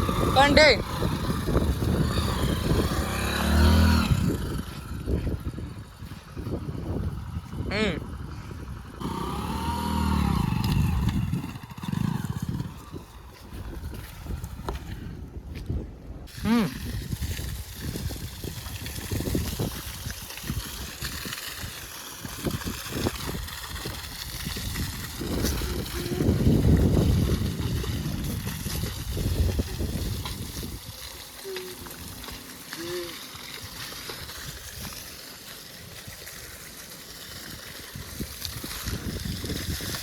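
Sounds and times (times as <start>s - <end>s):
water splashing and trickling: 0.0s - 14.8s, 16.2s - 40.0s.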